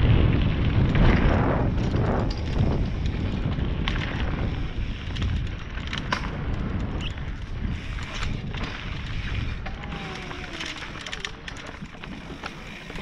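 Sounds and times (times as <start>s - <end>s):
bike clicks and rattles: 0.0s - 13.0s
bike tyres rumbling on dirt: 0.0s - 13.0s
wind buffeting microphone: 0.0s - 13.0s.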